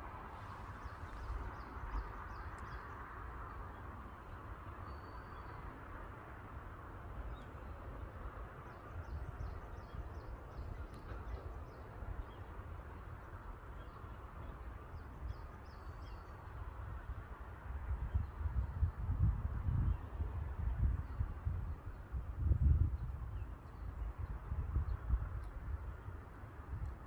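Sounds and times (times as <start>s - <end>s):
low rumble of wind: 0.0s - 27.0s.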